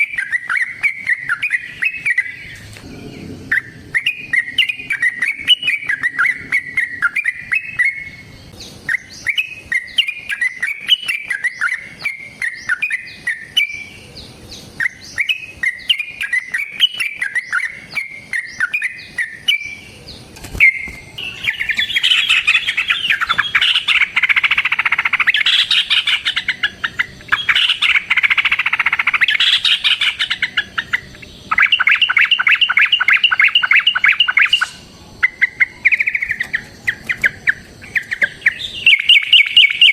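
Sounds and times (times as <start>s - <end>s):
bird trilling: 0.0s - 39.9s
bulbul singing: 0.0s - 39.9s.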